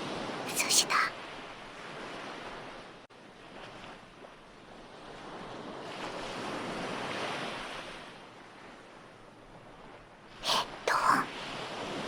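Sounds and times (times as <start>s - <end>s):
ocean waves washing on shore: 0.0s - 12.0s.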